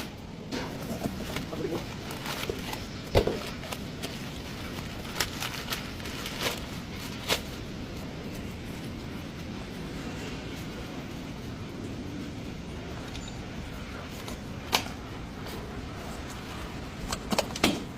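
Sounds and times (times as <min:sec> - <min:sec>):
steady background noise: 0:00.0 - 0:17.9.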